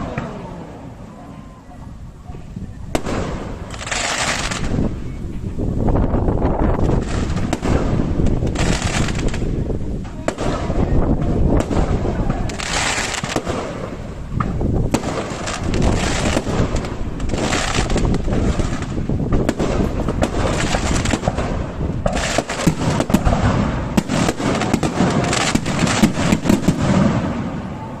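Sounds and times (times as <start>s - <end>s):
crackling hiss: 0.0s - 28.0s
fireworks bangs: 0.0s - 28.0s.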